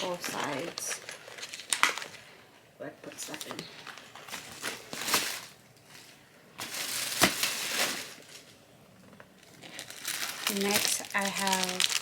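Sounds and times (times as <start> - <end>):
plastic packaging crinkling: 0.0 - 2.4, 3.1 - 8.6, 9.2 - 12.0.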